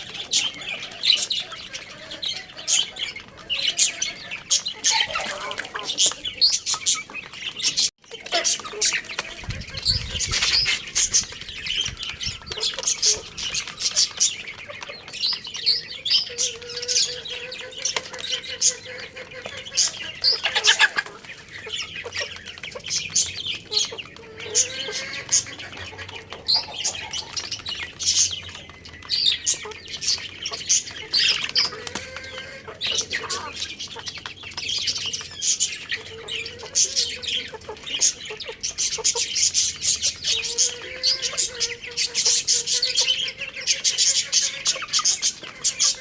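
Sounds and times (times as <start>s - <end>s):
chicks chirping: 0.0s - 46.0s
hen clucking: 0.0s - 46.0s.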